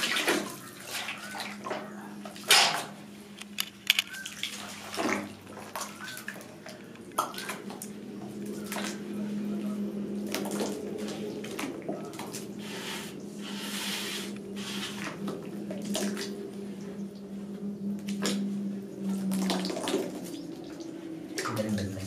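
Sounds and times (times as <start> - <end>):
sloshing and splashing in bucket: 0.0 - 3.4, 4.0 - 22.0
low steady hum: 0.0 - 22.0.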